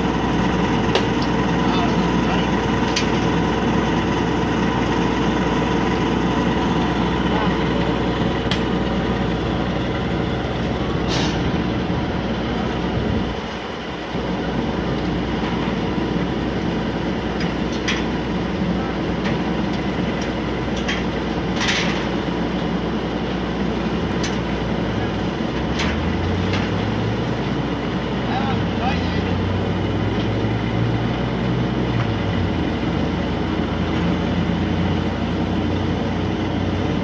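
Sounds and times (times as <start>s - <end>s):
ferris wheel drive engine: 0.0s - 37.0s.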